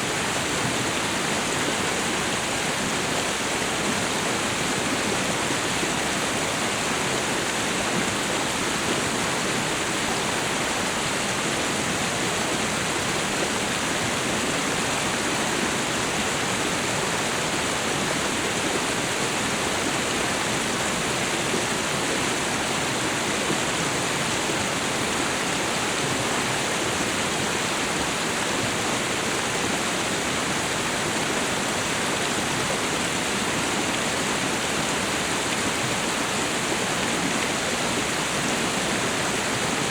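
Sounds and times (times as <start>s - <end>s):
waterfall and river rushing: 0.0s - 39.9s.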